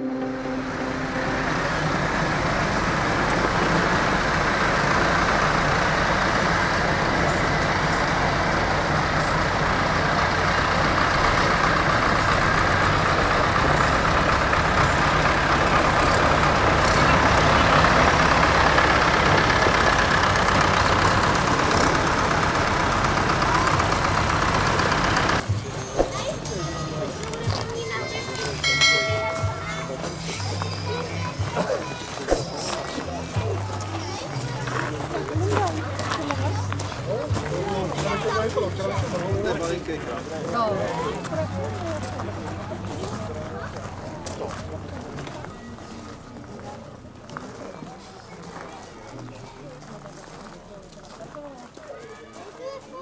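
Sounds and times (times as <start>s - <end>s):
tractor engine running: 0.0s - 51.8s.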